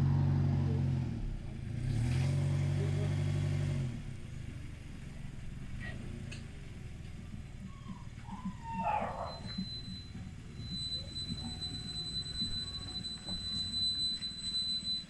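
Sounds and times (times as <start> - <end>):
minivan engine pulling under load: 0.0 - 15.0.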